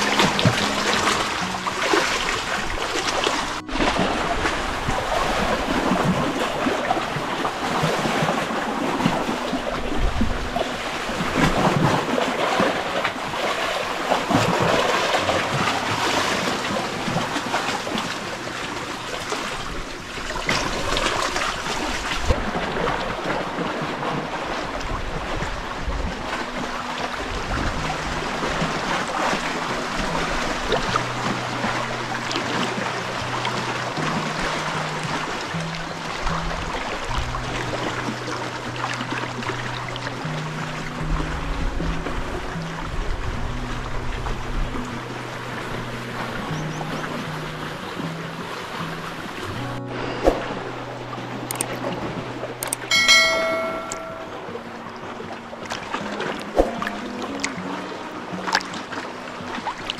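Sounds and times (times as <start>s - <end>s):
small waves lapping: 0.0s - 59.9s.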